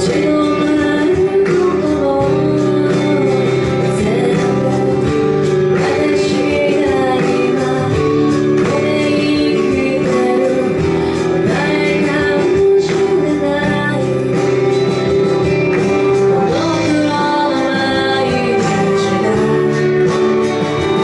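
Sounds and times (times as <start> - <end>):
instrumental accompaniment: 0.0 - 21.0
woman singing into microphone: 0.0 - 21.0.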